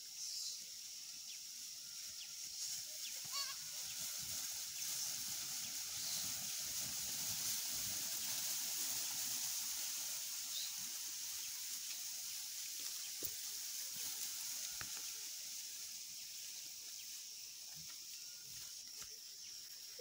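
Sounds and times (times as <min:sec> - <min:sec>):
steady high hiss: 0:00.0 - 0:20.0
goats trampling grass: 0:00.8 - 0:20.0.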